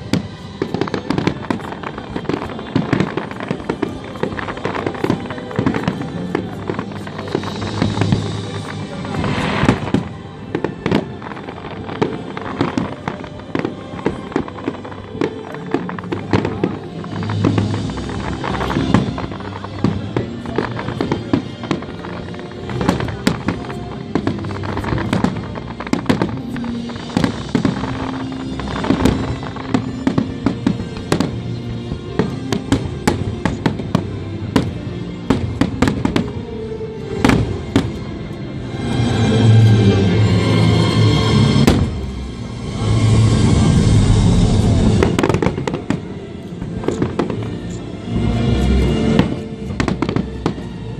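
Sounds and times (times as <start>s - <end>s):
fireworks cracking and banging: 0.0s - 50.9s
music playing: 0.0s - 50.9s.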